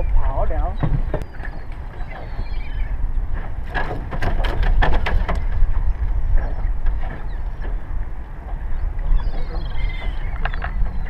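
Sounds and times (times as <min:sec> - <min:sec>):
choppy water: 0:00.0 - 0:11.0
wind rumble on microphone: 0:00.0 - 0:11.0.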